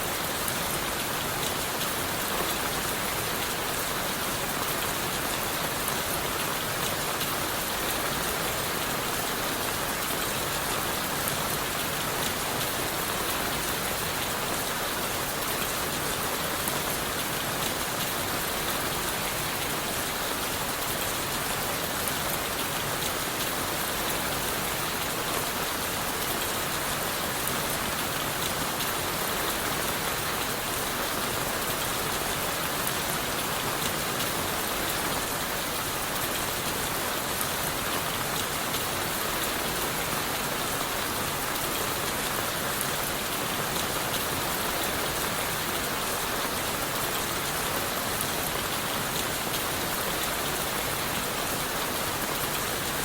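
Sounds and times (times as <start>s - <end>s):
rain falling on leaves and wood: 0.0s - 53.0s.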